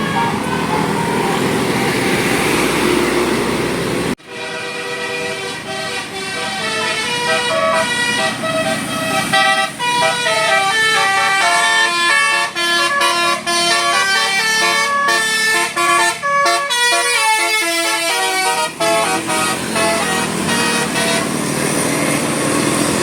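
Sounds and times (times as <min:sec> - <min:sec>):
bus musical horn melody: 0:00.0 - 0:03.3, 0:04.1 - 0:21.8.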